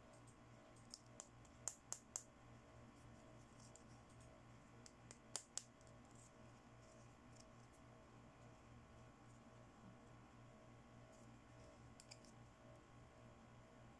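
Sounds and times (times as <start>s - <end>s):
faint low hum: 0.0s - 13.9s.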